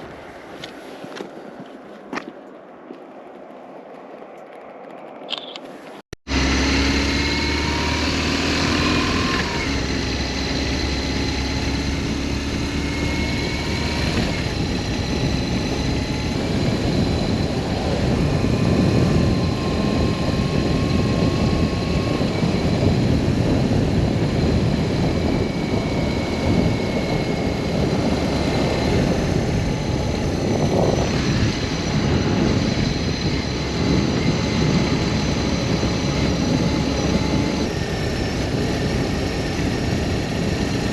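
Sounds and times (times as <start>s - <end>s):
wind and road noise: 0.0s - 40.9s
motorcycle engine cruising: 4.4s - 40.9s.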